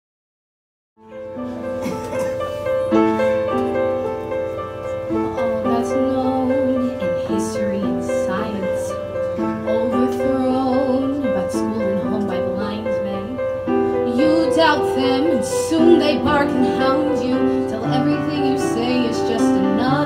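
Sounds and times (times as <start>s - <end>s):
piano chords: 1.0s - 20.0s.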